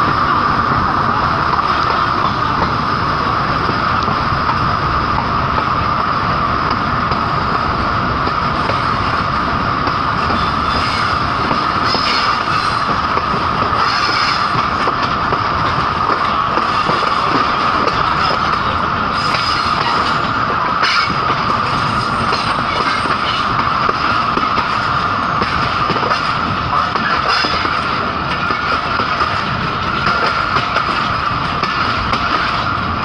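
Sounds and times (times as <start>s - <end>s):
train wheels rumbling and rattling: 0.0s - 33.0s.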